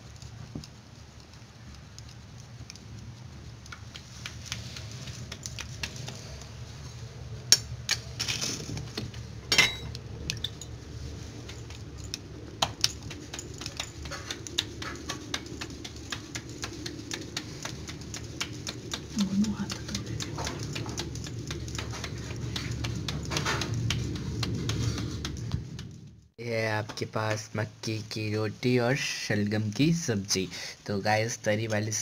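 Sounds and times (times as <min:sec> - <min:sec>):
low rumble of flame: 0:00.0 - 0:32.0
wood fire crackling and popping: 0:00.0 - 0:32.0.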